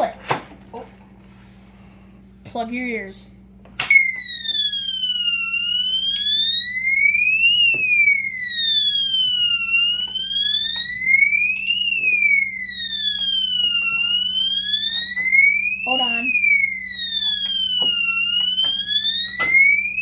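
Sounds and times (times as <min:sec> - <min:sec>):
fire alarm siren wailing: 0:03.8 - 0:20.0.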